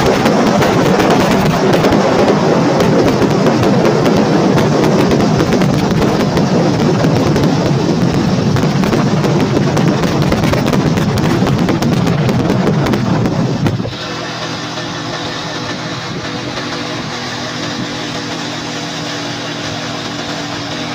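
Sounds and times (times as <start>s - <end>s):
motorcycle engine hum: 0.0s - 20.9s
wind buffeting microphone: 0.0s - 20.9s.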